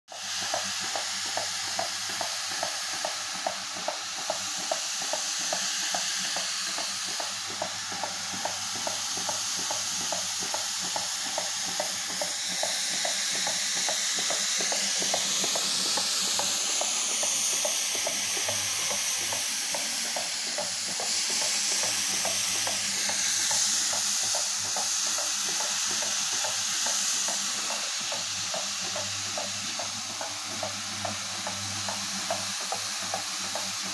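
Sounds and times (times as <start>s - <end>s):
floor scrubber motor hum: 0.2s - 33.9s.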